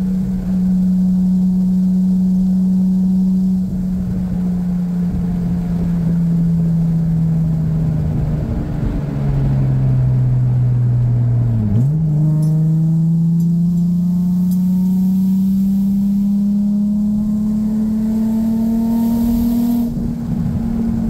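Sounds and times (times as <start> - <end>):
car engine cruising: 0.0 - 21.0.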